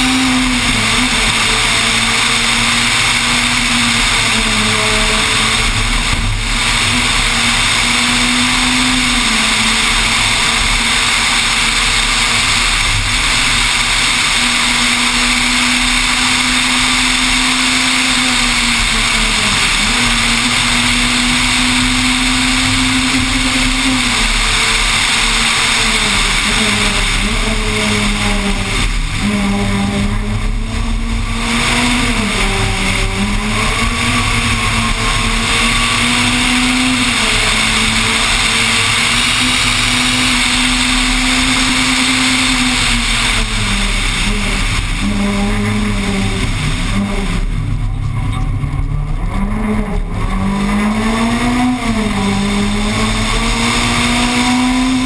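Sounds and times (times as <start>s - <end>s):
rally car engine at high revs: 0.0s - 55.0s
wind and road noise: 0.0s - 55.0s.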